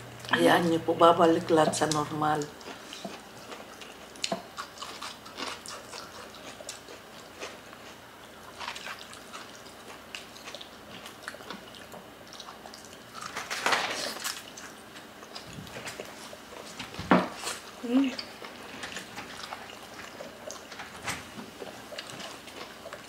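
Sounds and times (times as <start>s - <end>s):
people chewing and smacking lips: 1.6s - 23.0s.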